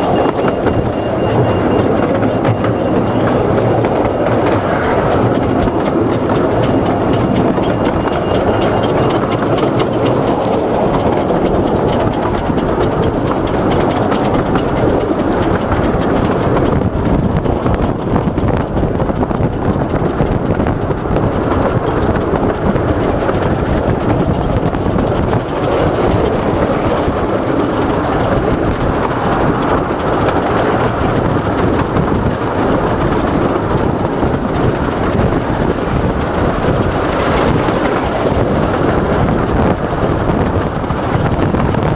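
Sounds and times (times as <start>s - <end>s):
rapid clicking of wheels: 0.0s - 41.9s
train wheels rumbling on rail: 0.0s - 41.9s.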